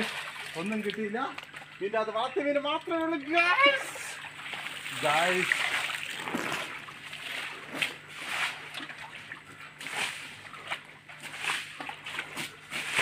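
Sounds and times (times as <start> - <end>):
pond water splashing: 0.0 - 13.0.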